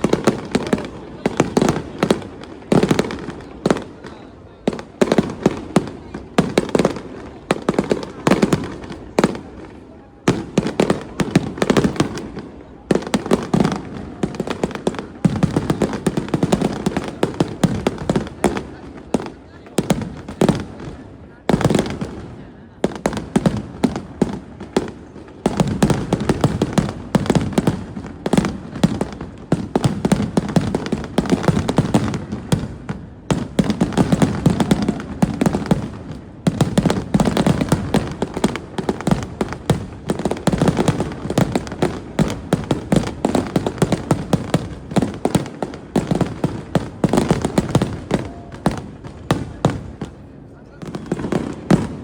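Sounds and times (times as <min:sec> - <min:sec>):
fireworks crackling and popping: 0:00.0 - 0:52.0.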